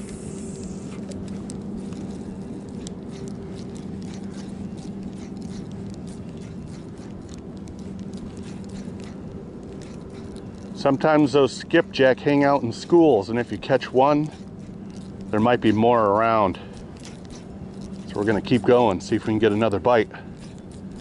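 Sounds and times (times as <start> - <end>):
fishing reel whirring and clicking: 0.0 - 21.0.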